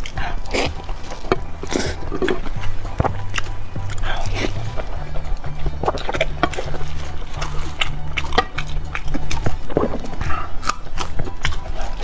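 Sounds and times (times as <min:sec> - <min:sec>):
background music with bass line: 0:00.0 - 0:12.0
wet chewing and mouth smacks: 0:00.0 - 0:12.0.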